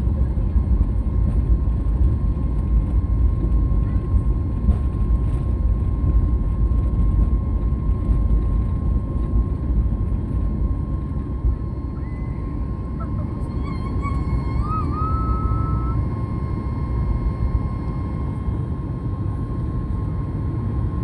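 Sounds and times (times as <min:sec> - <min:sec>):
airliner engines rumbling: 0:00.0 - 0:21.0
high engine whine: 0:00.0 - 0:21.0.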